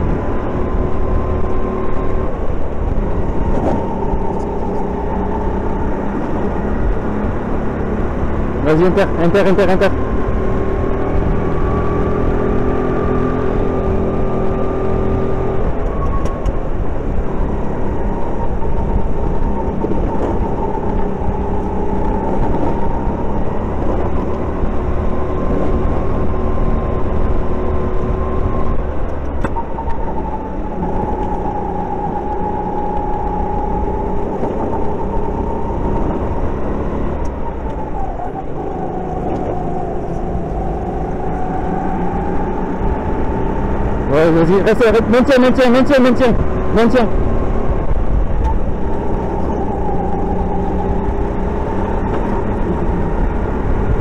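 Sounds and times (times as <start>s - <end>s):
kart engine droning: 0.0s - 54.0s.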